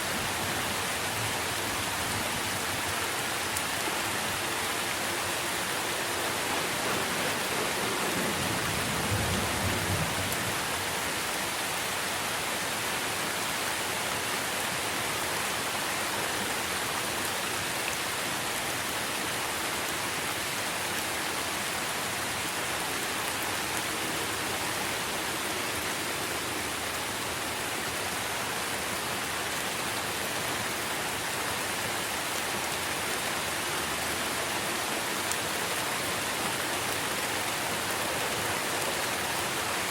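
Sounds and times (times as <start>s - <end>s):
rain on tree foliage: 0.0s - 39.9s.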